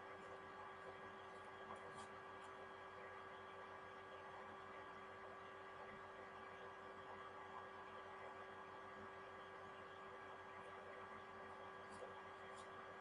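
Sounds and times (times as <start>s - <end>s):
faint electrical hum and hiss: 0.0s - 13.0s.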